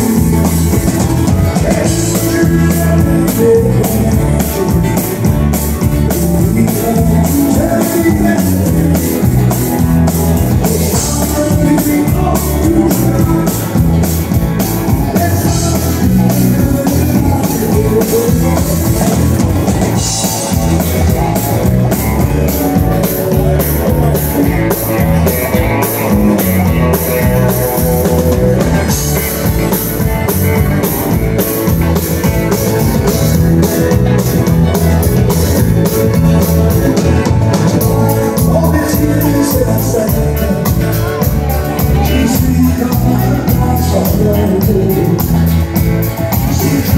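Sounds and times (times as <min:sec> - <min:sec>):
acoustic guitar strumming: 0:00.0 - 0:46.9
drum kit: 0:00.0 - 0:46.9
electric bass: 0:00.0 - 0:46.9.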